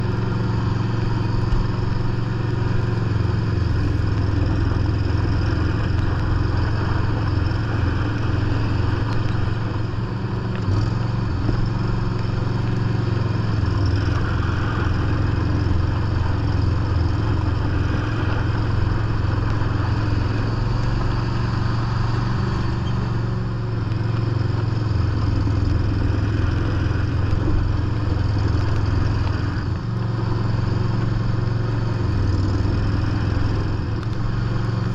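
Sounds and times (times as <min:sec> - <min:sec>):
lawn tractor engine under load: 0:00.0 - 0:34.9
snow blower: 0:00.0 - 0:34.9.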